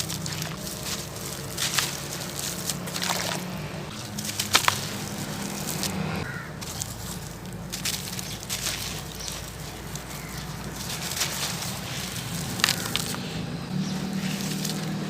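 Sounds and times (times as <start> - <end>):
sand-cement crumbling between fingers: 0.0 - 13.5.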